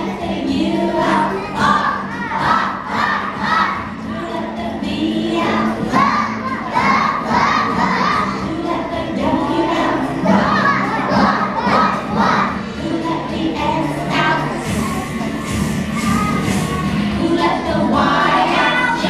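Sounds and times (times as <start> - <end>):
children singing loudly: 0.0 - 19.0.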